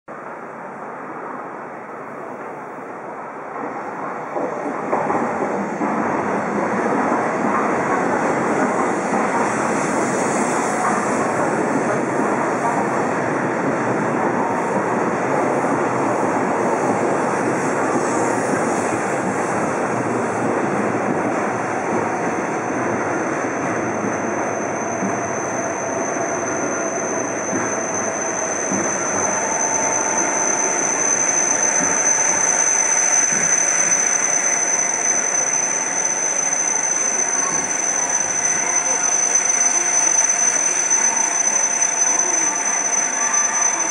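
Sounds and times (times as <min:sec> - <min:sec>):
train rushing past: 0:00.2 - 0:43.9.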